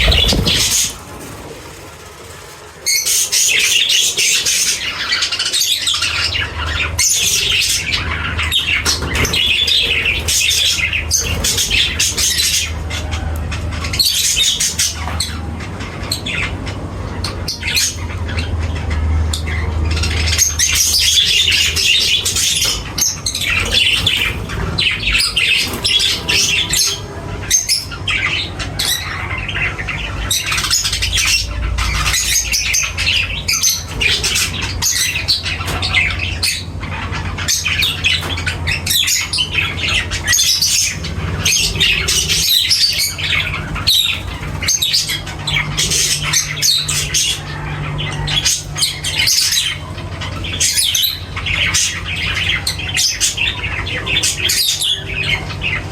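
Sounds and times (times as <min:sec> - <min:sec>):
birds chattering and squawking: 0:00.0 - 0:55.9
steady low hum: 0:00.0 - 0:55.9.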